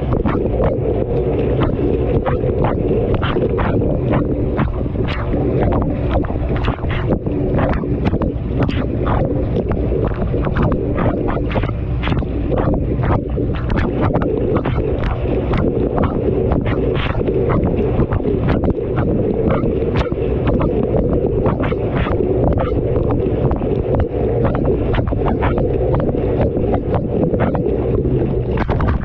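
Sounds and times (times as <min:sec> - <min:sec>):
water churning in washing machine: 0:00.0 - 0:29.0.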